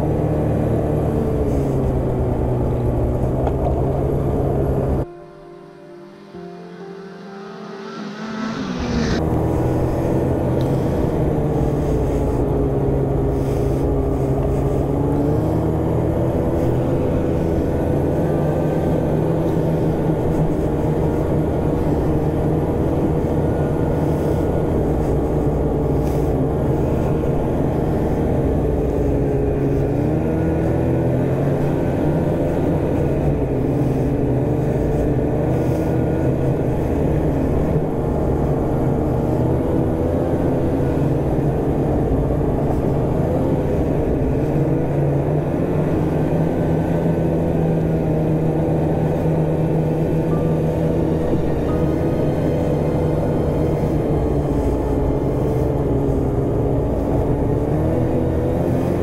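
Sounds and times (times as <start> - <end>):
snowmobile engine running: 0.0 - 5.2, 7.7 - 59.0.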